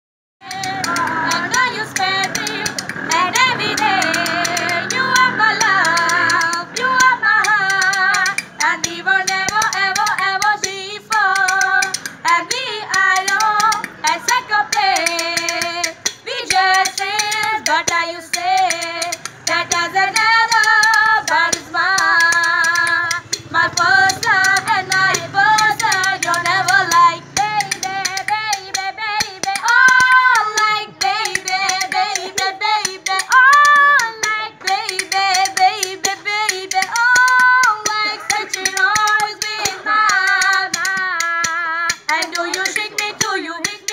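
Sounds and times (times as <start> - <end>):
hand claps: 0.4 - 43.9
two women singing together: 0.4 - 43.9.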